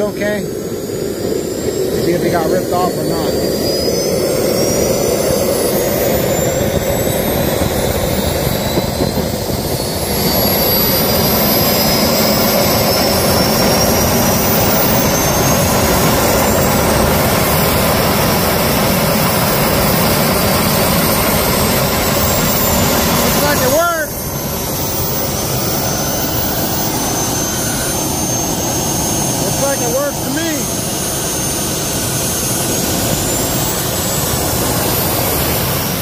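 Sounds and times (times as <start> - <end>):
model turbojet engine whining: 0.0 - 36.0.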